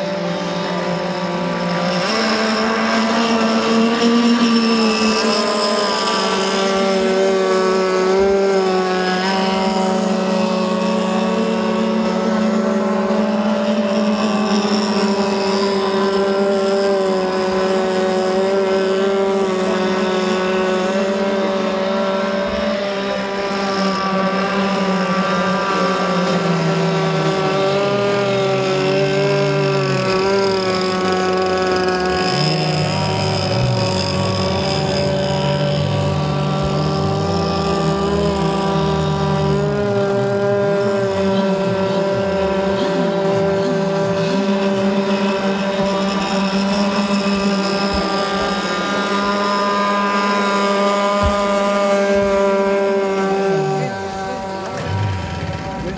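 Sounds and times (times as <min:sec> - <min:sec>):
model boat engine buzzing: 0:00.0 - 0:55.9.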